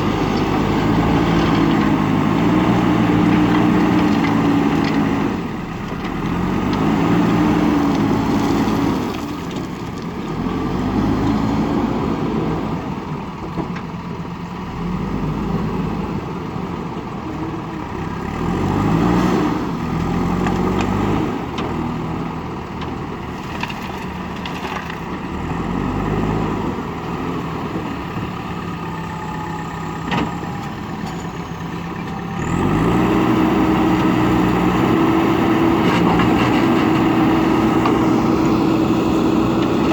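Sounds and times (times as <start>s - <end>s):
backhoe diesel engine revving: 0.0s - 13.4s, 14.6s - 39.9s.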